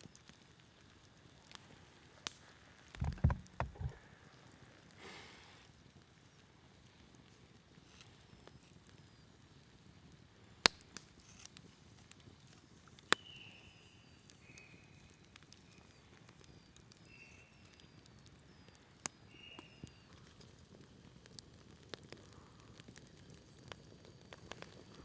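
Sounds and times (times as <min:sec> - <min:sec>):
campfire wood crackling: 0:00.0 - 0:25.0.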